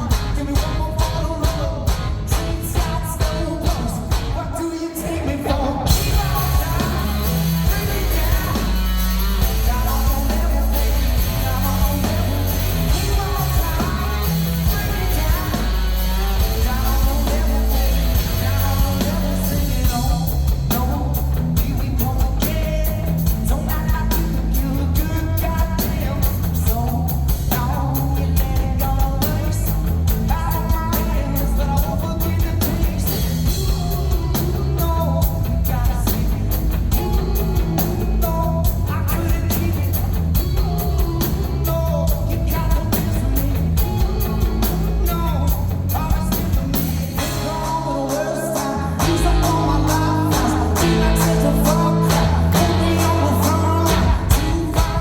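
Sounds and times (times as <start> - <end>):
drums: 0.0 - 55.0
electric guitar: 0.0 - 55.0
person singing: 0.0 - 55.0.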